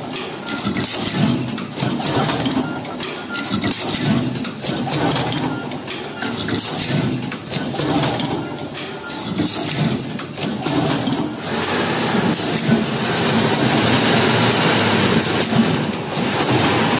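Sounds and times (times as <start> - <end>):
machine clatter: 0.0 - 16.9.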